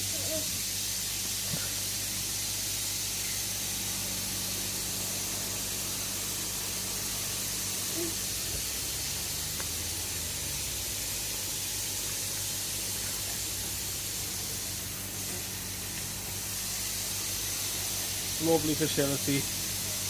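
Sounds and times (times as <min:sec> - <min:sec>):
hiss of moving water and air: 0:00.0 - 0:20.0
pump electric hum: 0:00.0 - 0:20.0.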